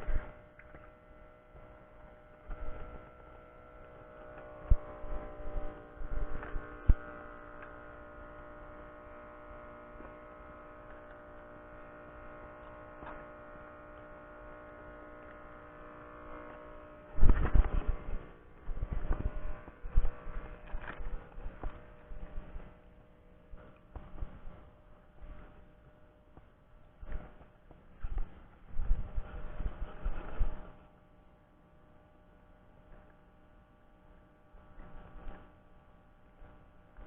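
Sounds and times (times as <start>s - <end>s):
hum of held tones: 0.0s - 37.0s.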